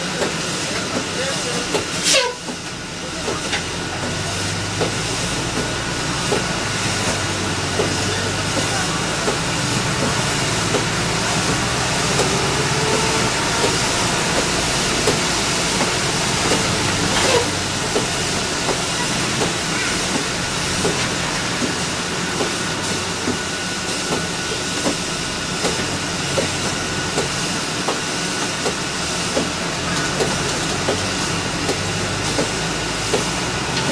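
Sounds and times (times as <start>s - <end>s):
bus engine and tyre hiss: 0.0s - 33.9s.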